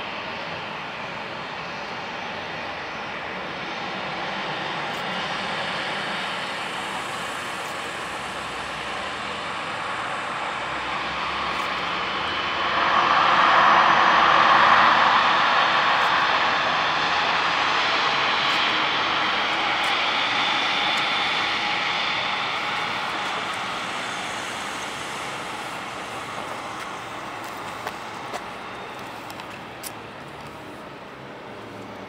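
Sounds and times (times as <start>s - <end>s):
jet engines taxiing: 0.0s - 32.0s.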